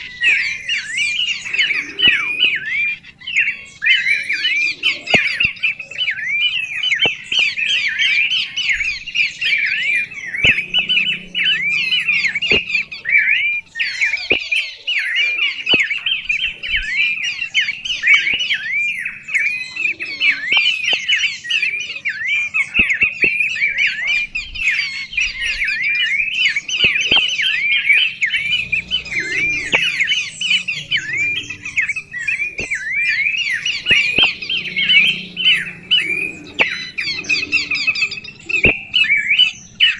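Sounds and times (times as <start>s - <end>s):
faint clicks: 0.0s - 14.7s, 15.6s - 21.6s, 22.6s - 38.8s
birds chirping: 0.0s - 39.9s.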